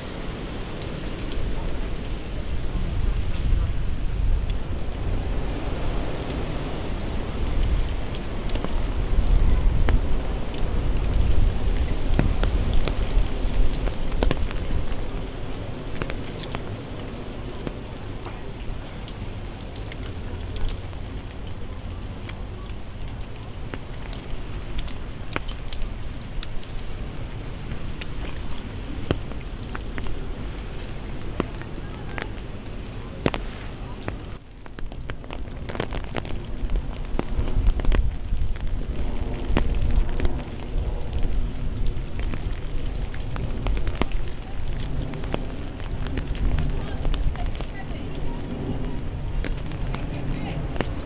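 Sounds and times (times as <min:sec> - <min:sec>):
rain falling: 0:00.0 - 0:51.0
sharp raindrop ticks: 0:00.0 - 0:51.0.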